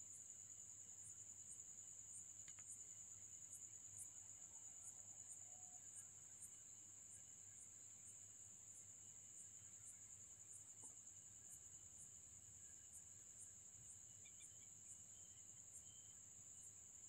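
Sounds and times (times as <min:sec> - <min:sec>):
crickets trilling and chirping: 0:00.0 - 0:17.0.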